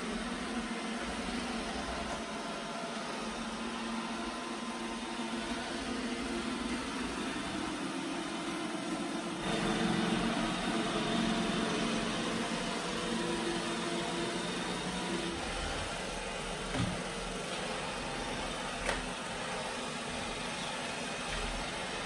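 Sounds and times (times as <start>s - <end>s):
robot vacuum running: 0.0s - 22.0s.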